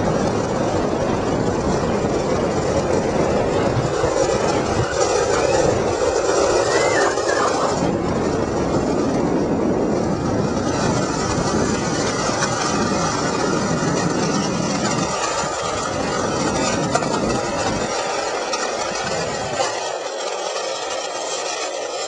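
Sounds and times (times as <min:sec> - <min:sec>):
wheels rolling over gritty asphalt: 0:00.0 - 0:22.0.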